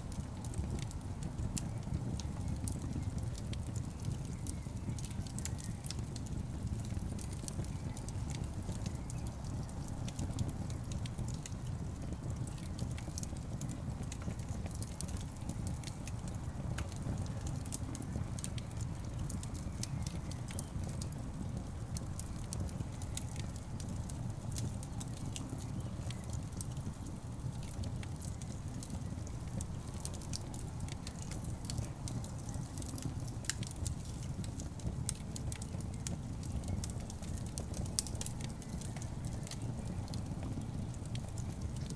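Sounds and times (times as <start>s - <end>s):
burning logs crackling: 0.0s - 41.9s
low fire rumble: 0.0s - 41.9s.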